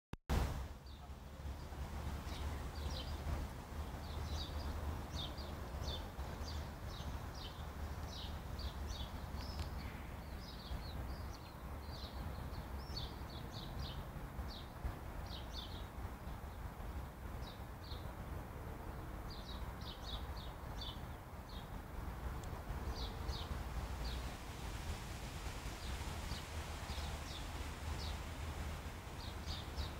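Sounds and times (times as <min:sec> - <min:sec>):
small birds chirping: 0:00.8 - 0:18.2, 0:19.3 - 0:24.4, 0:25.7 - 0:29.9.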